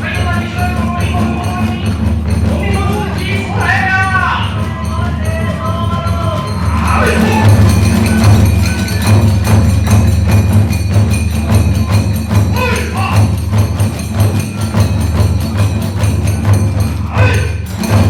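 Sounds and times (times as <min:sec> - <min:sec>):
hand cymbals clashing: 0:00.0 - 0:18.0
taiko drums beating: 0:00.0 - 0:18.0.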